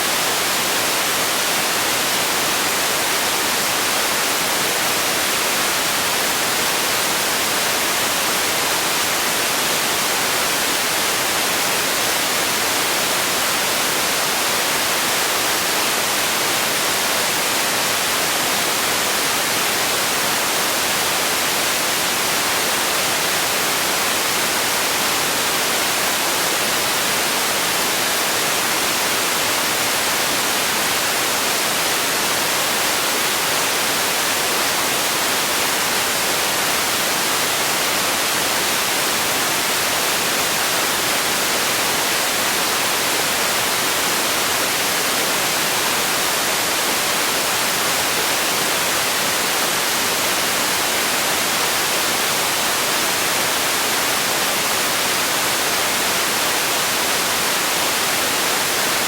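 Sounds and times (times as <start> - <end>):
constant high hiss: 0.0 - 59.0.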